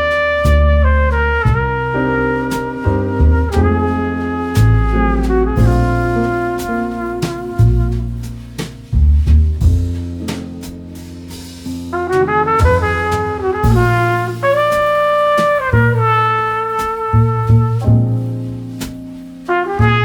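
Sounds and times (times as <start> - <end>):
drums: 0.0 - 20.0
jazzy brass tune: 0.0 - 20.0
walking bass: 0.0 - 20.0.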